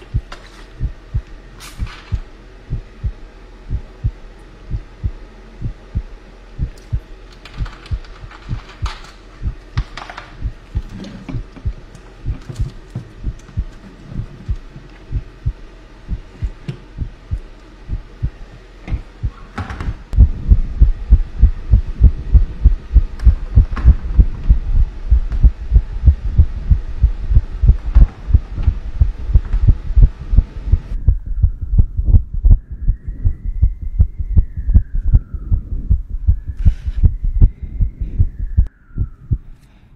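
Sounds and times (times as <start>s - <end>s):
heartbeat thuds: 0.0s - 9.6s, 10.4s - 39.4s.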